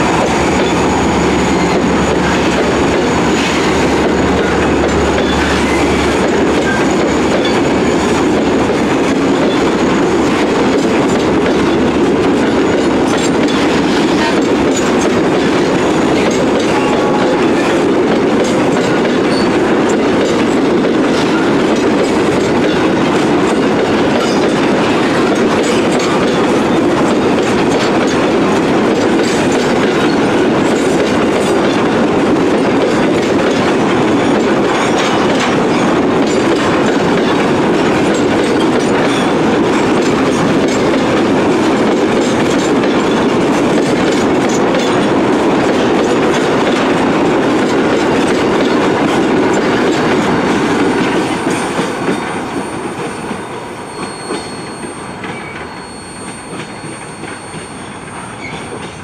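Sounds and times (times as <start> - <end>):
steel wheels rumbling on rail: 0.0 - 59.0
wheels clicking over rail joints: 1.4 - 53.4.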